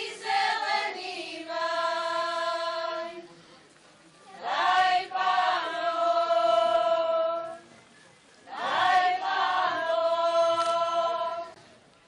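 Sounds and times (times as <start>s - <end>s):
women's choir singing folk song: 0.0s - 3.2s, 4.3s - 7.6s, 8.4s - 11.6s.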